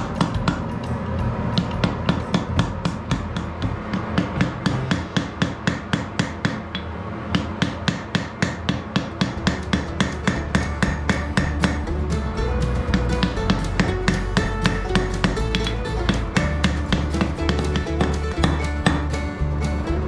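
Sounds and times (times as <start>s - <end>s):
hammer striking iron on anvil: 0.0s - 12.0s, 12.8s - 19.4s.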